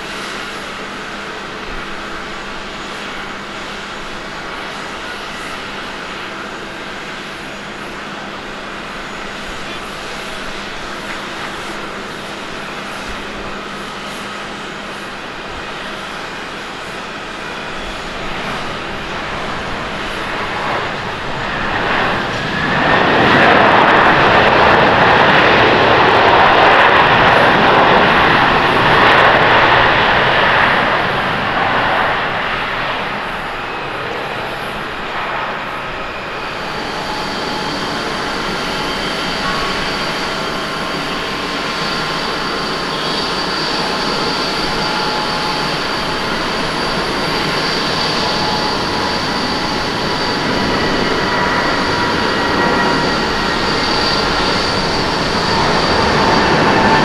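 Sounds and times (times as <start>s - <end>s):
jet climbing with high whine: 0.0s - 57.0s
jet reverse thrust roar: 0.0s - 57.0s.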